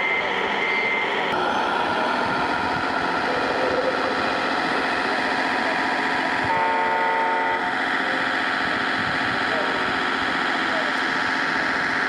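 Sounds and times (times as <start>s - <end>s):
steady whine: 0.0s - 12.0s.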